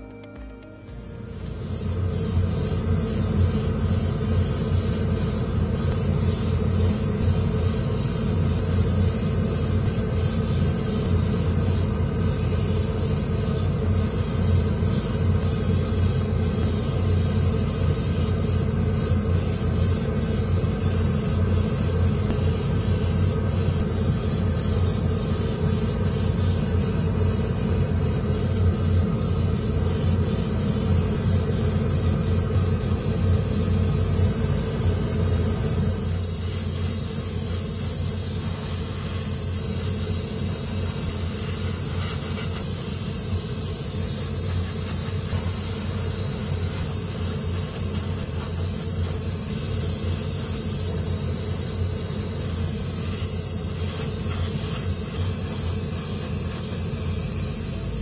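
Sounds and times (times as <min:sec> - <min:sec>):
airbrush hissing: 0:00.7 - 0:58.0.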